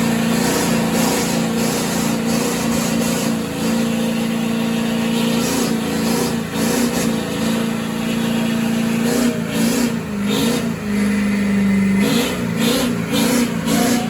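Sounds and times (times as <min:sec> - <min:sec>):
engine revving during burnout: 0:00.0 - 0:14.0.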